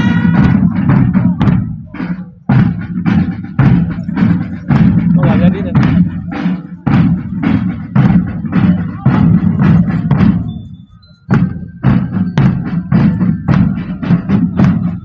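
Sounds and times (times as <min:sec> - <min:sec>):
heavy low drums: 0:00.0 - 0:15.0
marching drums beating: 0:00.0 - 0:15.0.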